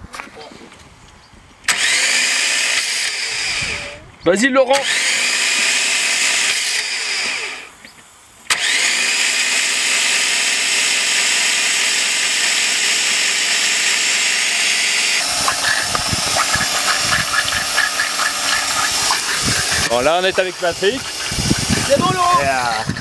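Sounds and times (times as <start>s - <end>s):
power tool motor running: 1.7s - 4.0s, 4.7s - 7.8s, 8.5s - 23.0s.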